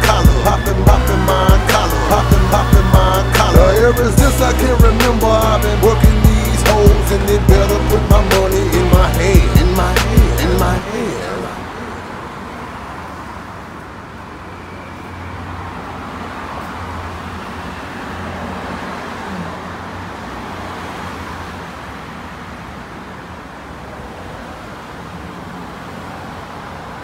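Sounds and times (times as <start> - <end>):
cars passing on street: 0.0 - 27.0.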